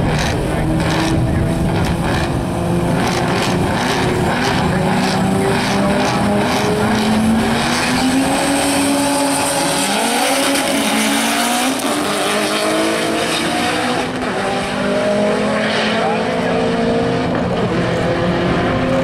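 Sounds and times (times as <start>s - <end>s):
car engines revving through gears: 0.0s - 19.0s.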